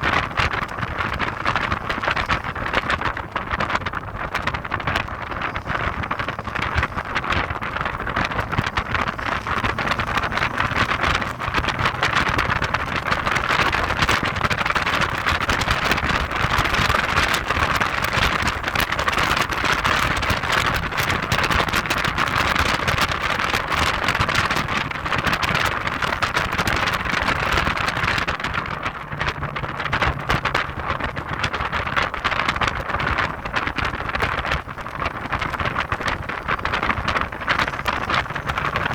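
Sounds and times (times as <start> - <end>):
car road and engine noise: 0.0 - 38.9
wind buffeting on microphone: 0.0 - 38.9.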